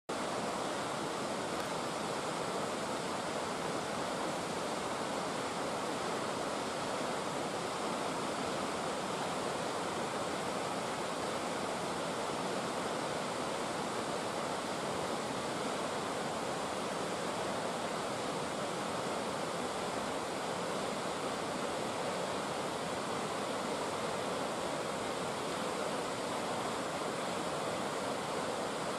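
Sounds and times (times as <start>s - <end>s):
waterfall rushing: 0.1s - 28.9s.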